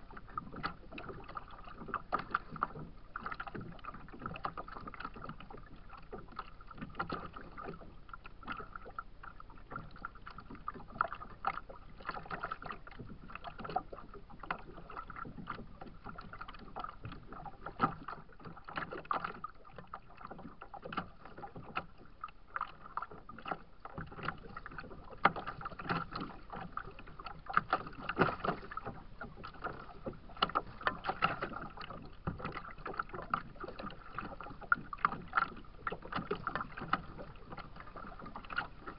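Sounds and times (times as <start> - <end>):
water splashing against kayak hull: 0.0 - 38.9.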